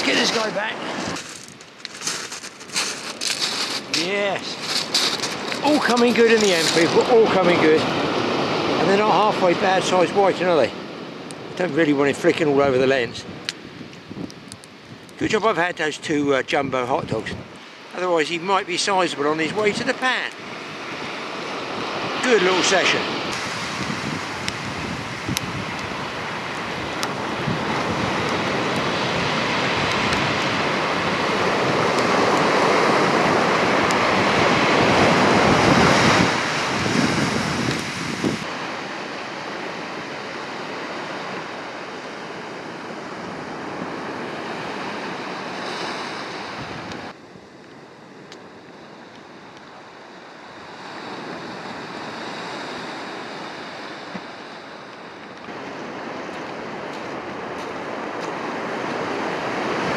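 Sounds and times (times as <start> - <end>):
wind buffeting microphone: 0.0 - 49.8
sea surf washing on beach: 0.0 - 59.9.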